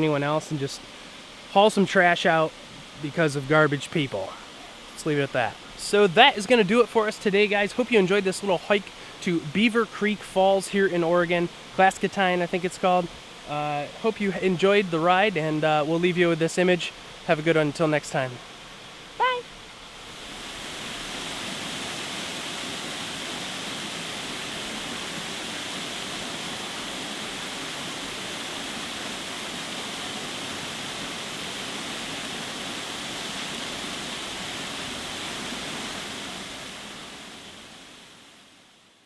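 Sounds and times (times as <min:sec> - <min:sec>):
waterfall rushing into pool: 0:00.0 - 0:39.0.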